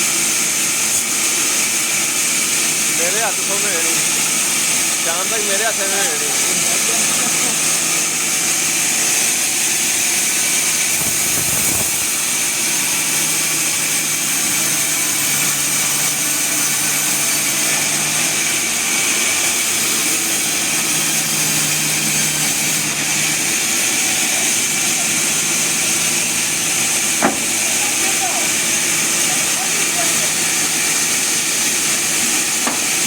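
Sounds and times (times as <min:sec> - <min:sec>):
sawmill machinery hiss: 0:00.0 - 0:33.0.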